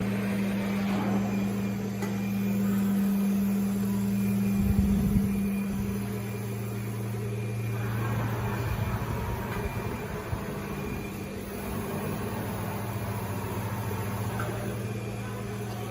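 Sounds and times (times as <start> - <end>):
cnc router humming: 0.0 - 15.9.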